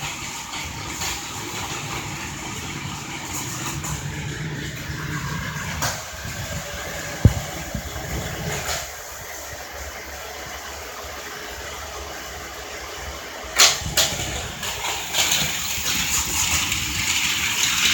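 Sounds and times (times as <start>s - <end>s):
toy vehicles running on plastic track: 0.0s - 17.9s.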